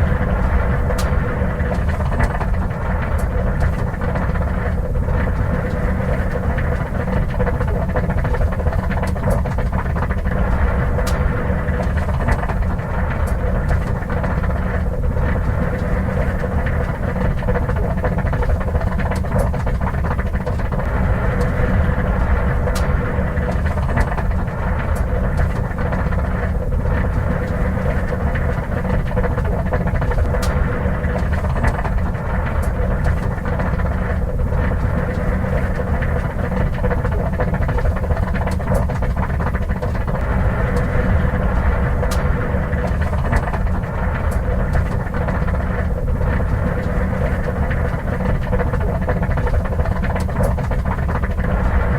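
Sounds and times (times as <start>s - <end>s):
car engine idling: 0.0s - 51.9s
steady rushing noise: 0.0s - 51.9s.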